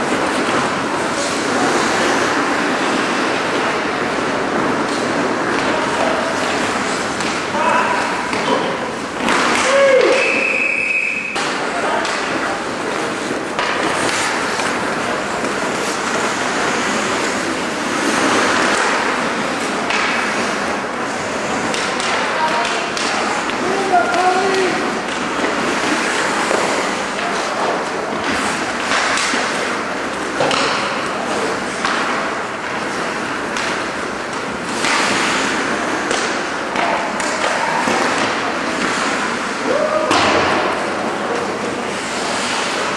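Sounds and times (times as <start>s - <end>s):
ice hockey play rushing: 0.0s - 42.9s
skate blades scraping ice: 0.0s - 42.9s.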